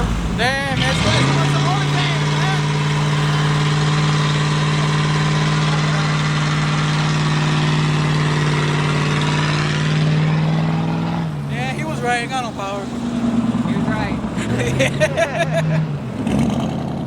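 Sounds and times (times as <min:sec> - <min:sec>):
car engine revving high: 0:00.0 - 0:17.0.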